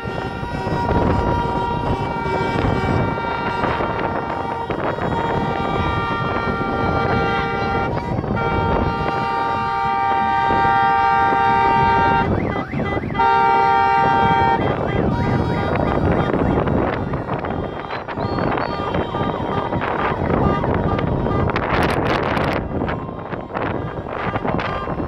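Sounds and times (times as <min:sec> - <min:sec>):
car horns honking: 0:00.0 - 0:25.0
passing traffic rumble: 0:00.0 - 0:25.0.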